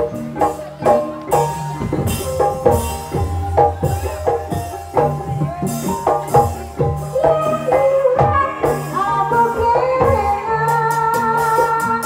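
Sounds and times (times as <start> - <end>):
drum strokes bending down in pitch: 0.0 - 10.4
gamelan music: 0.0 - 12.0
person singing: 1.3 - 12.0.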